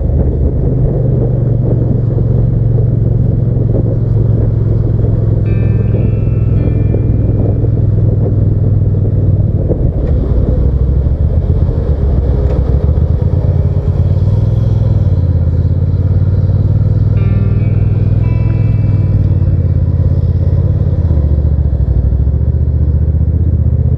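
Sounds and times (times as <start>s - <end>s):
motorcycle engine running: 0.0s - 23.9s
road and wind noise: 0.0s - 23.9s.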